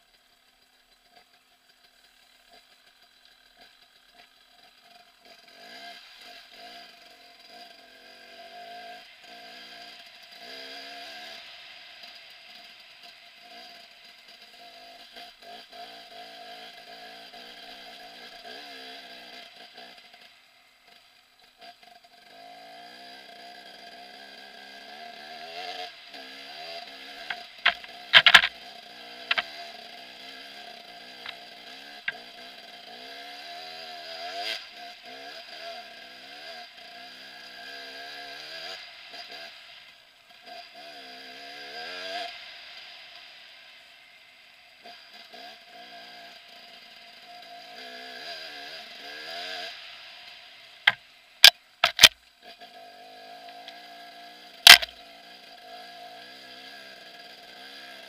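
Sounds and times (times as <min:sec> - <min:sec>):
motorcycle engine revving: 0:00.3 - 0:58.0.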